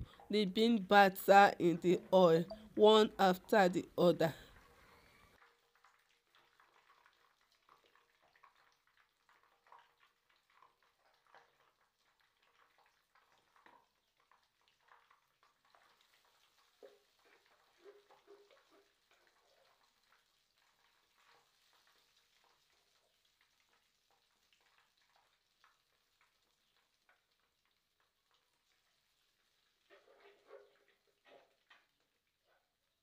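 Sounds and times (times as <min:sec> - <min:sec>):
fritters frying in hot oil: 0:04.4 - 0:33.0.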